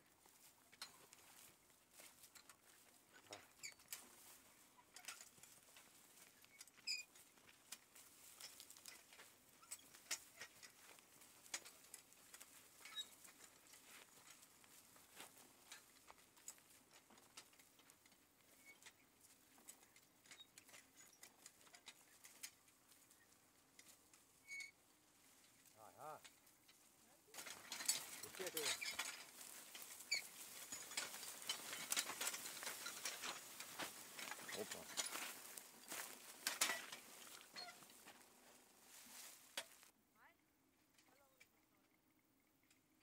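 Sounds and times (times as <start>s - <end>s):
dry soil crackling and scratching: 0.0s - 40.0s.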